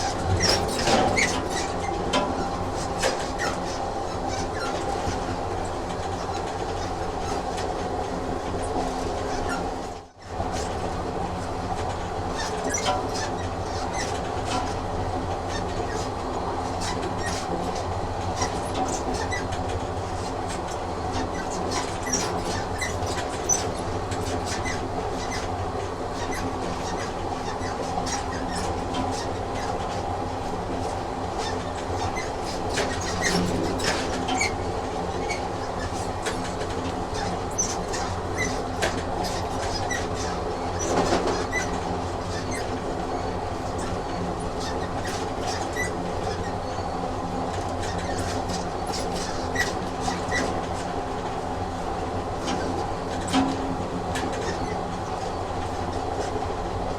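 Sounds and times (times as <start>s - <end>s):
train running on rails: 0.0s - 56.9s.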